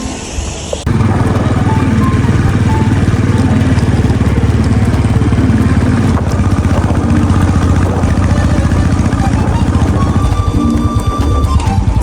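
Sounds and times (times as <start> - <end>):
motorcycle engine running: 0.9 - 12.0.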